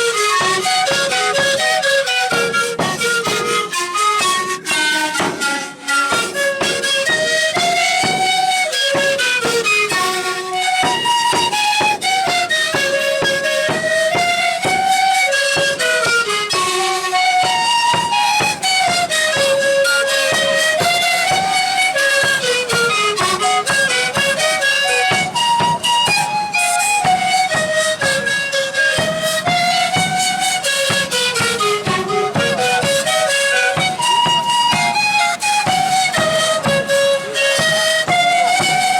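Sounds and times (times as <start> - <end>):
flute melody: 0.0 - 38.9
steady drumming: 0.0 - 38.9.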